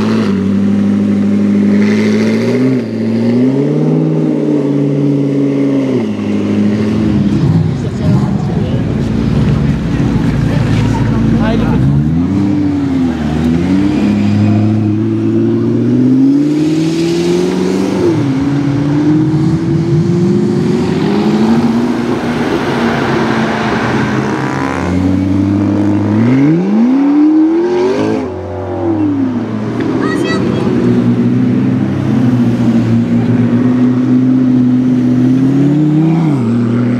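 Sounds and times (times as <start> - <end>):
sports car engine accelerating: 0.0 - 36.9.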